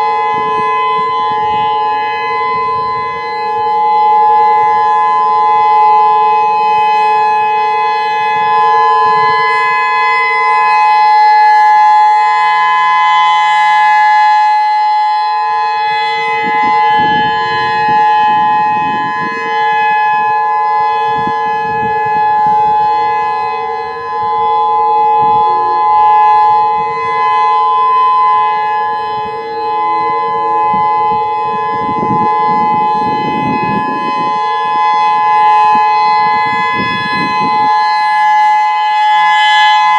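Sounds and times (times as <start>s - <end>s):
steady siren tone: 0.0s - 39.9s.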